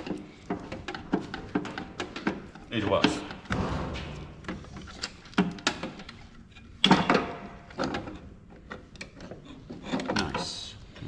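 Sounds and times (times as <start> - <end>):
printer parts clunking and clicking: 0.0 - 10.5.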